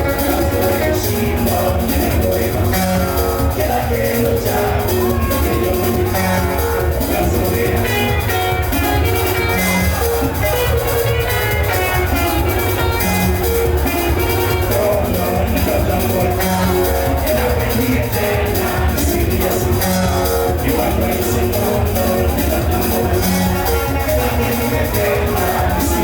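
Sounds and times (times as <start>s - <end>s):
bass line and drum beat: 0.0s - 26.0s.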